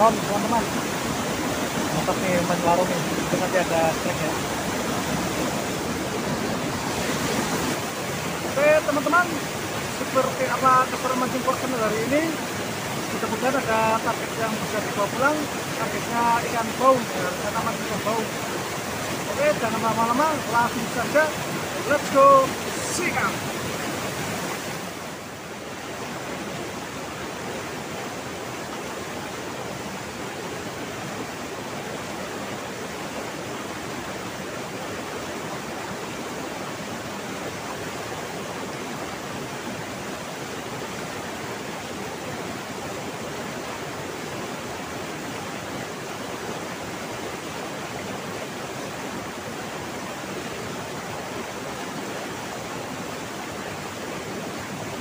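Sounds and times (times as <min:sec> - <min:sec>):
waterfall and river rushing: 0:00.0 - 0:55.0.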